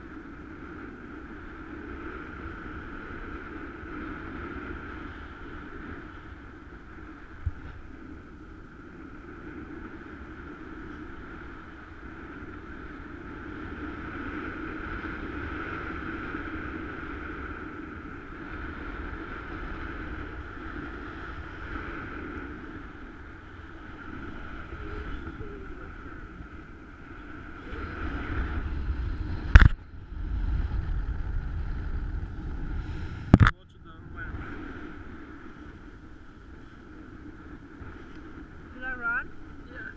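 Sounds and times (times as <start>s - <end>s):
low wind buffeting: 0.0s - 39.9s
wind rushing over camera: 0.0s - 39.9s.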